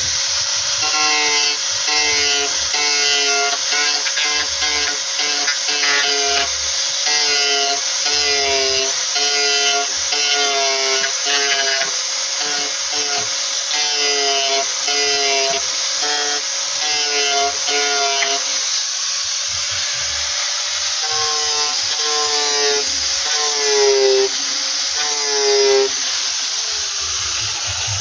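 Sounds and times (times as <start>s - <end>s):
angle grinder sanding disc grinding: 0.0s - 28.0s.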